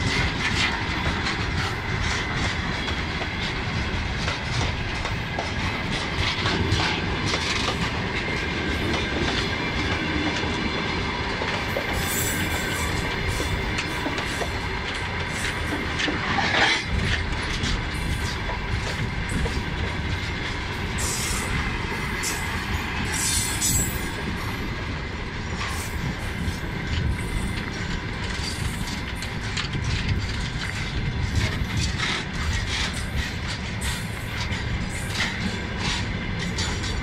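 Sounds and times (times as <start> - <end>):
train wheels rumbling on rails: 0.0 - 37.0
wheels clicking over rail joints: 0.0 - 37.0.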